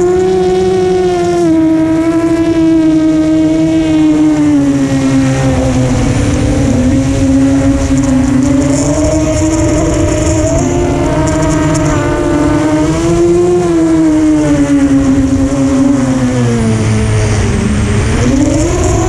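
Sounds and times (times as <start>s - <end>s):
drone motors whining: 0.0s - 19.0s
rumble of air: 0.0s - 19.0s.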